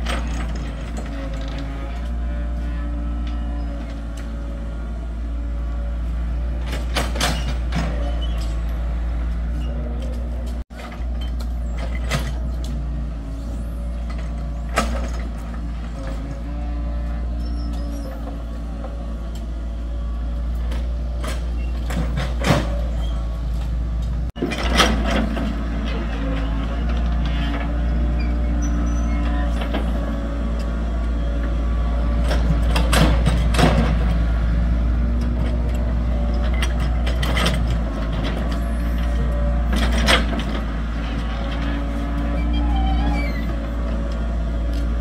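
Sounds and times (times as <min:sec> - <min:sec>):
diesel engine humming: 0:00.0 - 0:45.0.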